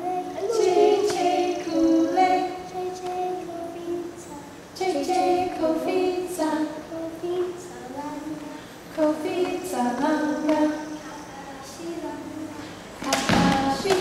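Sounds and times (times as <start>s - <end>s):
children and women singing: 0.0s - 14.0s.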